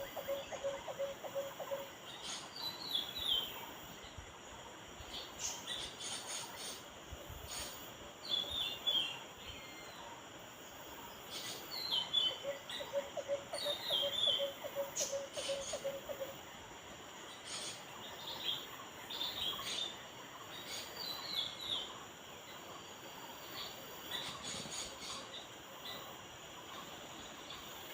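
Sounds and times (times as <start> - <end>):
faint background hiss: 0.0 - 27.9.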